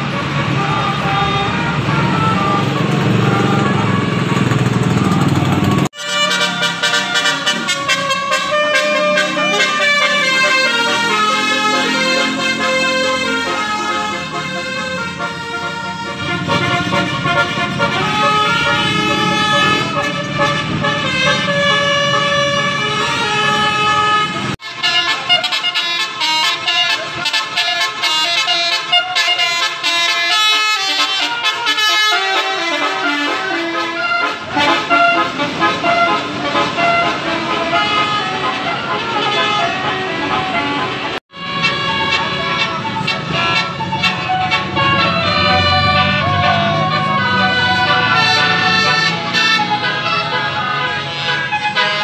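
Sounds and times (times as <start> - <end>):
heavy vehicle engine running: 0.0 - 28.2, 32.5 - 52.0
musical horn melody: 0.0 - 52.0.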